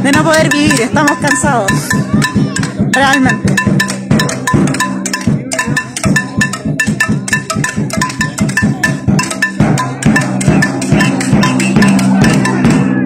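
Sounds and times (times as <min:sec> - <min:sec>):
knocking and clanging percussion: 0:00.0 - 0:13.0
ringing metallic notes: 0:00.0 - 0:13.0.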